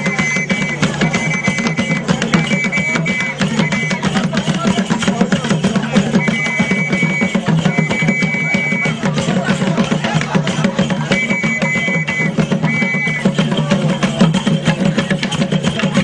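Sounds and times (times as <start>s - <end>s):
high steady tone: 0.0s - 15.3s
fast dance drumming: 0.0s - 16.0s.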